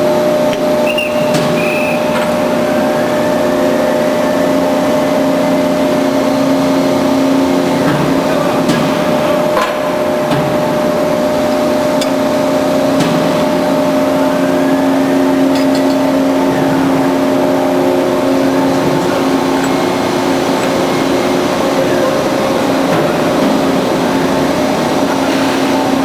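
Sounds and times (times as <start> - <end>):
band saw running: 0.0 - 26.0.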